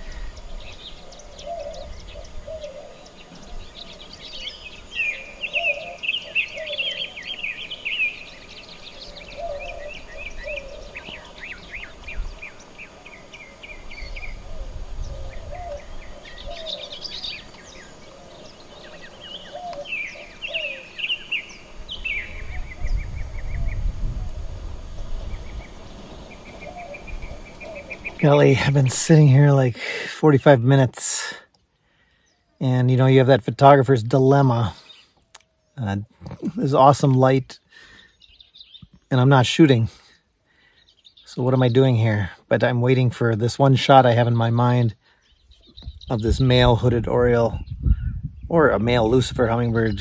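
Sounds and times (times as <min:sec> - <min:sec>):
birds singing and calling: 0:00.0 - 0:50.0.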